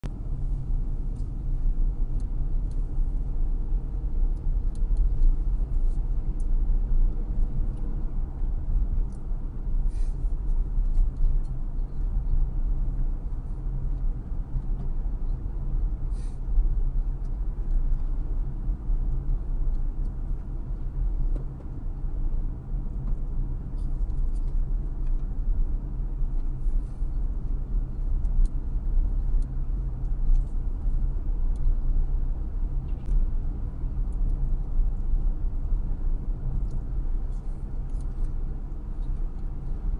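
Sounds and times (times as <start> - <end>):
car rumbling from inside cabin: 0.0 - 39.9.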